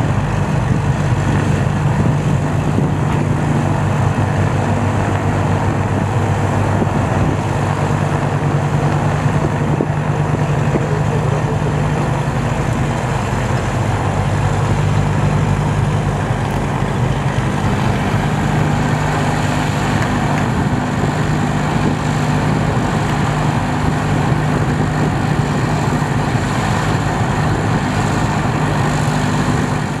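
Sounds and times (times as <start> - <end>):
piston aircraft engines running: 0.0 - 30.0
propeller noise: 0.0 - 30.0.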